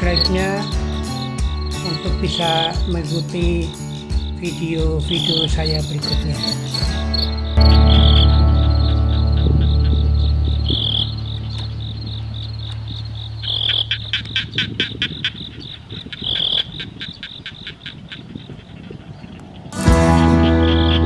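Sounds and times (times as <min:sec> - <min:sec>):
insect trill: 0:00.0 - 0:18.5
insects chirping: 0:00.0 - 0:19.7.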